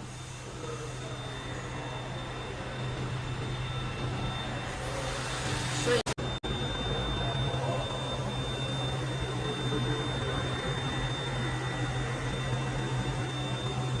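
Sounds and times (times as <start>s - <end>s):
high whine: 0.0s - 14.0s
welding machine humming: 0.0s - 14.0s.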